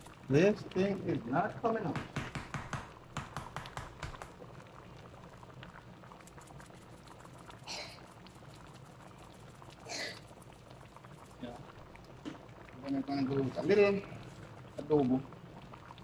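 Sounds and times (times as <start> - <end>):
pot boiling and bubbling: 0.0 - 16.0.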